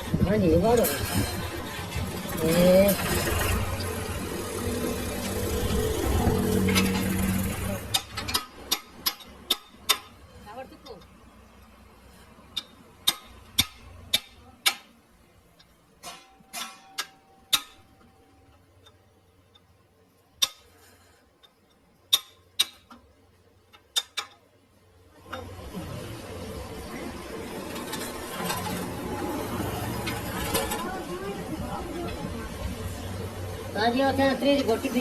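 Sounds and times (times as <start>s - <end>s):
workshop machine noise: 0.0s - 35.0s.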